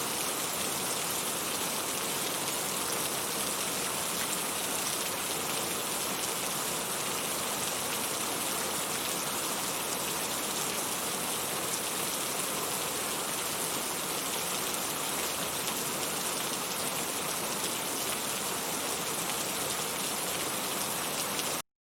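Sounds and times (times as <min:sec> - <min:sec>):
heavy rain falling: 0:00.0 - 0:21.6.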